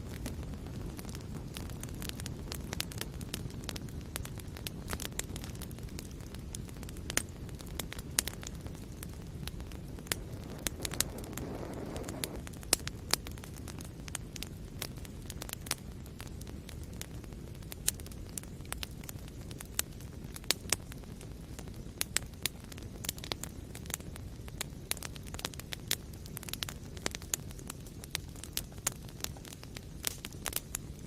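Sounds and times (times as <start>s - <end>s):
fire crackling and popping: 0.0s - 31.0s
fire hissing: 0.0s - 31.0s
low rumble of flames: 0.0s - 31.0s.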